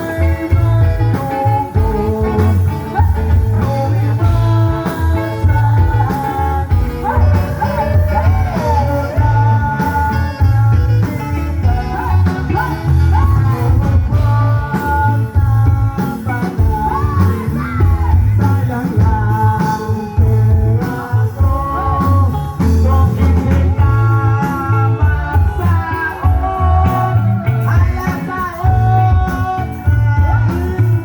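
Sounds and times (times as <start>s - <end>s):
heavy pulsing bass: 0.0s - 31.0s
person singing: 0.0s - 31.0s
rock band playing: 0.0s - 31.0s.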